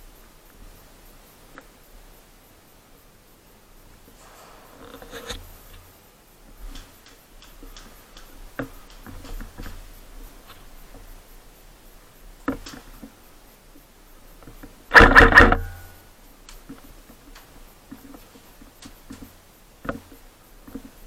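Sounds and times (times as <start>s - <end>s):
faint clicks: 4.0s - 21.0s.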